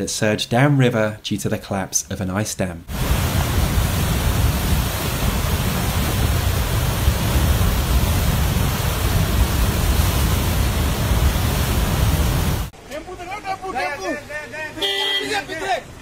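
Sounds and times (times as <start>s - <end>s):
river torrent rushing: 2.9s - 16.0s.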